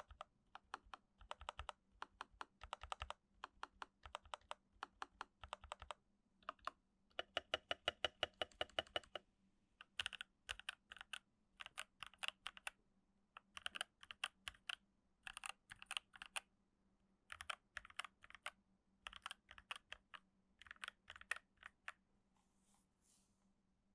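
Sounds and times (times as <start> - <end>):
mechanical keyboard typing: 0.0 - 9.2, 9.8 - 12.7, 13.4 - 16.5, 17.3 - 22.0.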